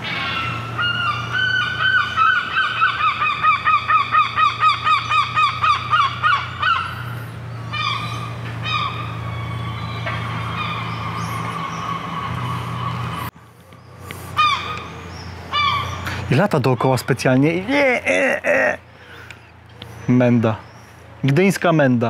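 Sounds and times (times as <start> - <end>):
seagull calling: 0.0 - 21.0.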